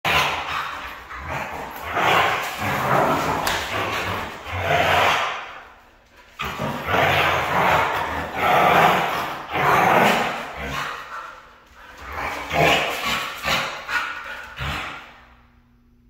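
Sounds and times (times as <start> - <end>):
dogs growling while play-fighting: 0.1 - 15.4.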